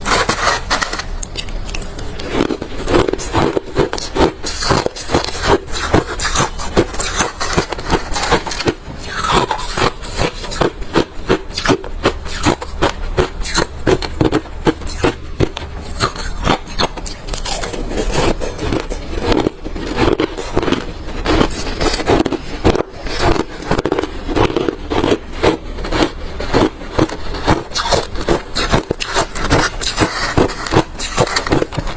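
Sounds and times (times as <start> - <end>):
chewing crunchy ice: 0.1 - 31.9.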